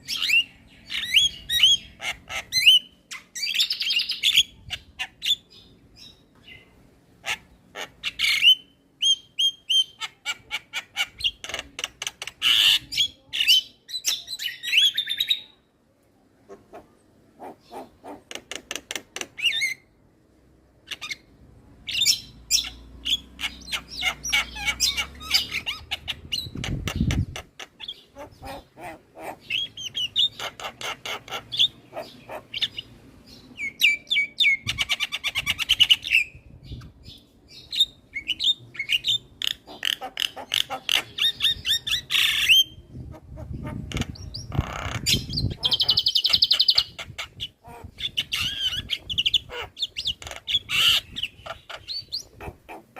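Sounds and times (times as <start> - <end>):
bird chattering song: 0.0 - 15.6, 16.5 - 20.0, 21.9 - 52.9.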